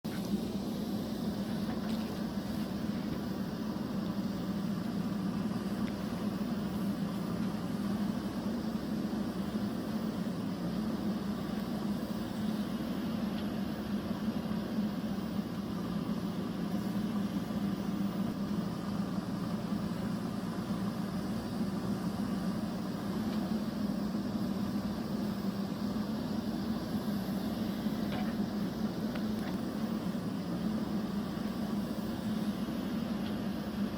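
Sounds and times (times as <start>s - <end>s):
steady motor hum: 0.0s - 33.9s.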